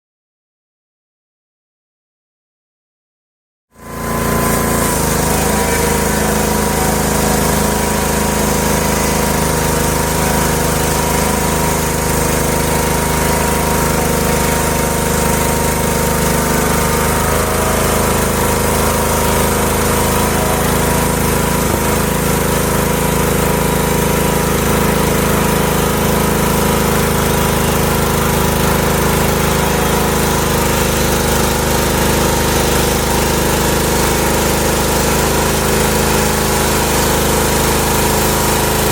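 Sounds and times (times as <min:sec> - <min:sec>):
sawmill mechanical drone: 0:03.8 - 0:38.9.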